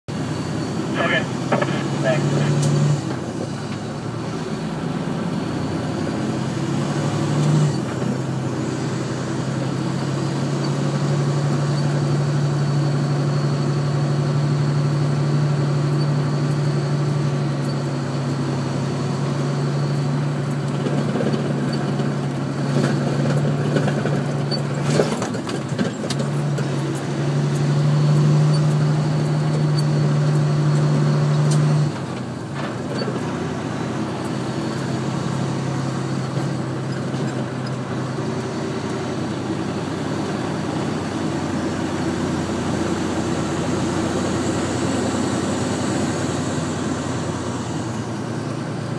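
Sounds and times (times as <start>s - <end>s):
heavy engine humming: 0.1s - 48.9s.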